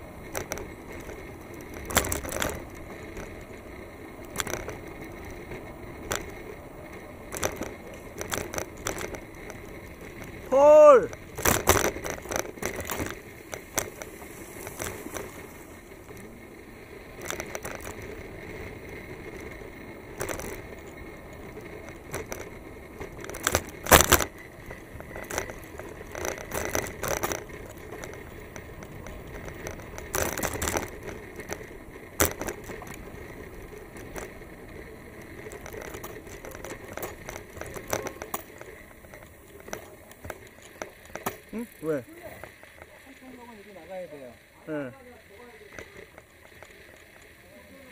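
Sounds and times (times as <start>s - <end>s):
bicycle rattling on paved path: 0.0s - 47.9s
steady rushing noise: 0.0s - 47.9s.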